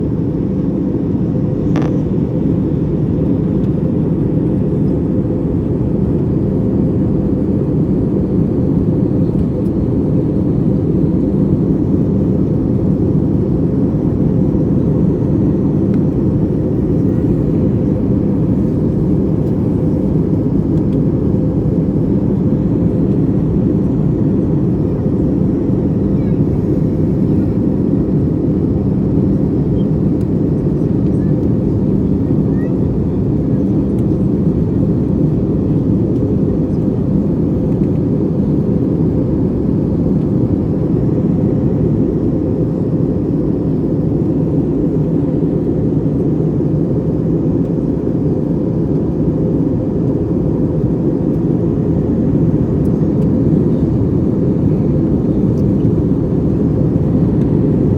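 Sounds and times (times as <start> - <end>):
airliner cabin drone: 0.0 - 57.9.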